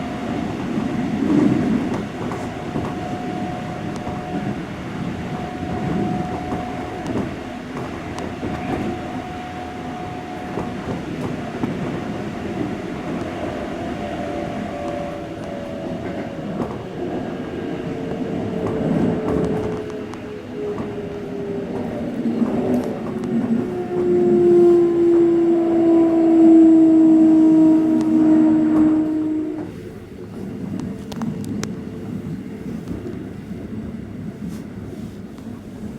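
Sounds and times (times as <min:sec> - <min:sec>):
wheels rumbling on rail: 0:00.0 - 0:35.9.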